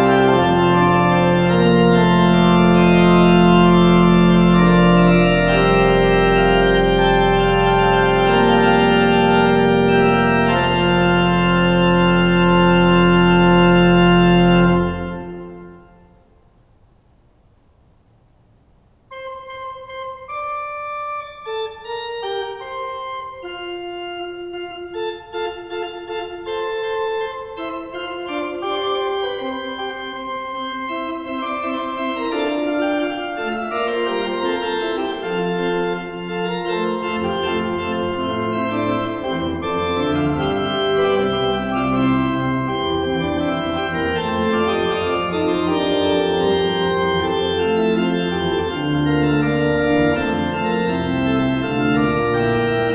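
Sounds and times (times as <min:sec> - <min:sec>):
pipe organ playing: 0:00.0 - 0:16.2, 0:19.1 - 0:52.9.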